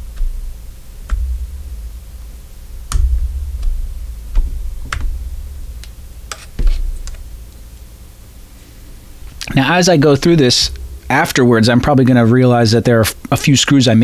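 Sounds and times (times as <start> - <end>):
dull handling bumps: 0.0 - 13.3.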